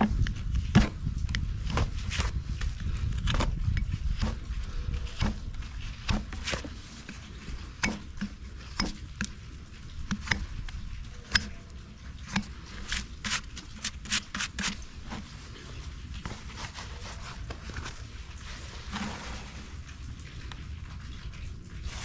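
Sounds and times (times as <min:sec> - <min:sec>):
tools scraping horse hoof: 0:00.0 - 0:18.0.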